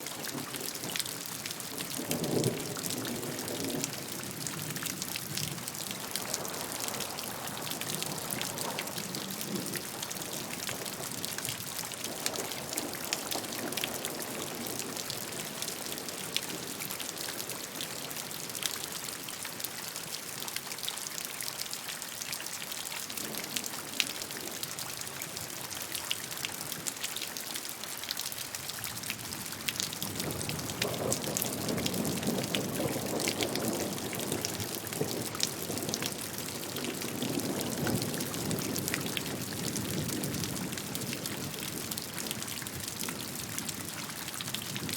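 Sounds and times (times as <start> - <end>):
steady rainfall hiss: 0.0 - 20.4, 21.4 - 44.9
raindrops ticking on a surface: 0.0 - 44.9.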